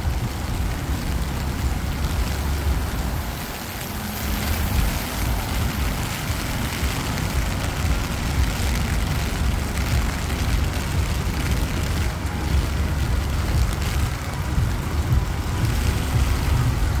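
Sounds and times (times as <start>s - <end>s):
deep low rumble: 0.0s - 17.0s
rain on wet street: 0.0s - 17.0s.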